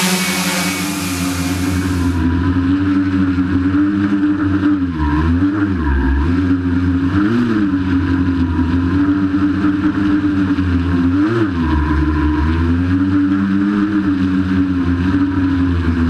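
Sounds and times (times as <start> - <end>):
drone motors buzzing whine: 0.0 - 16.0.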